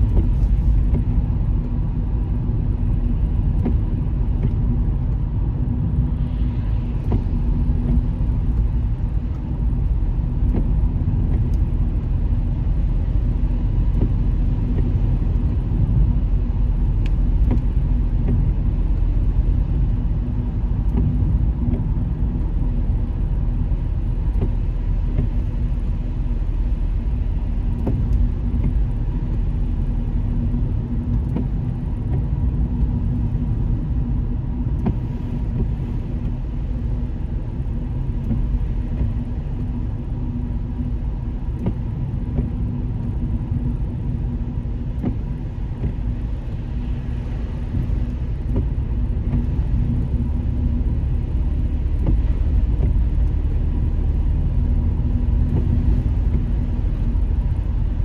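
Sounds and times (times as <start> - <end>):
car road and tyre rumble: 0.0 - 58.0
constant low hum: 0.0 - 58.0.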